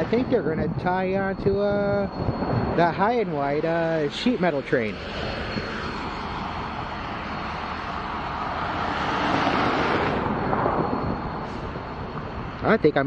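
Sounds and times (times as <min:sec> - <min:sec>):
rushing noise: 0:00.0 - 0:13.0.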